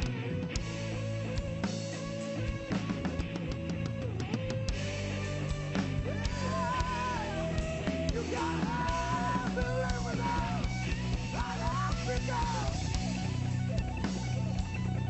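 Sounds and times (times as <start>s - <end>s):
rock band playing: 0.0s - 15.0s
wavering lead guitar melody: 0.0s - 15.0s.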